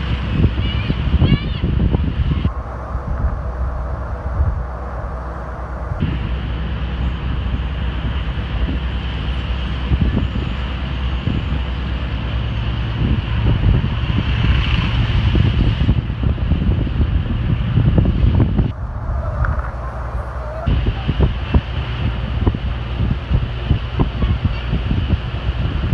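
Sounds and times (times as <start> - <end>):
road and wind noise: 0.0 - 25.9.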